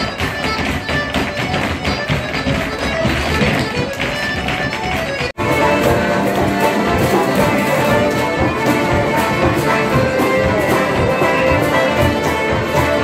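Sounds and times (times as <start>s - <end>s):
folk band playing a tune: 0.0s - 13.0s.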